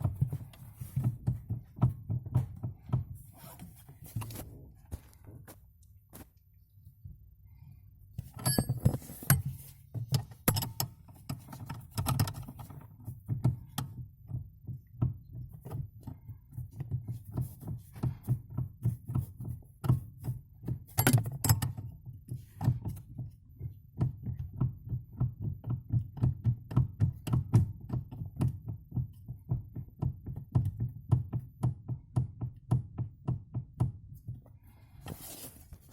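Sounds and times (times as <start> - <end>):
dull steering knocks: 0.0 - 4.4, 8.2 - 34.7.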